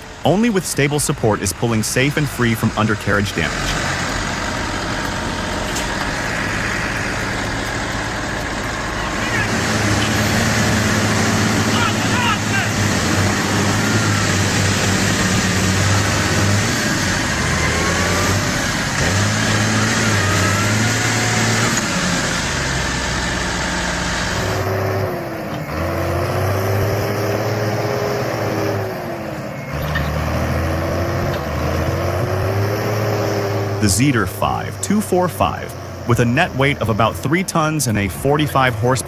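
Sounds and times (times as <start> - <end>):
heavy diesel engines revving: 0.0 - 39.0
rough noisy background: 0.0 - 39.0.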